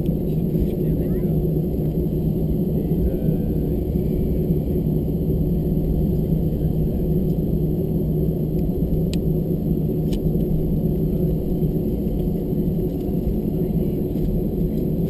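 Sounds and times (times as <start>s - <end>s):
aircraft engines rumbling: 0.0s - 15.0s
constant hum: 0.0s - 15.0s.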